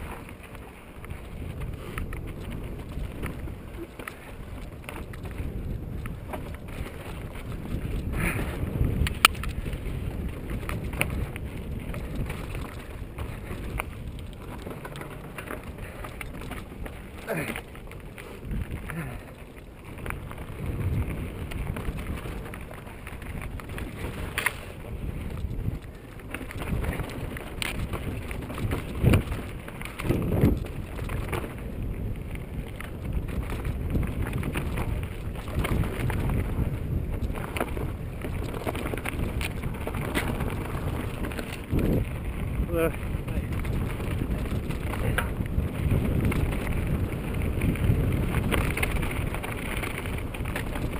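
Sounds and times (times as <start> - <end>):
bike knocking and rattling on rocks: 0.0 - 50.9
bike tyres rumbling over dirt: 0.0 - 50.9
wind buffeting microphone: 0.0 - 50.9.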